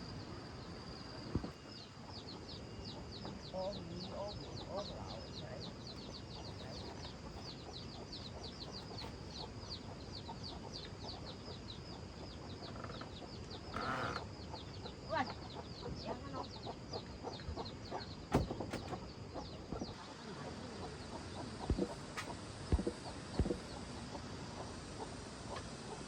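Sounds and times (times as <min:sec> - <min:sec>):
chicks peeping: 0:01.0 - 0:26.0
chickens clucking: 0:01.3 - 0:26.0.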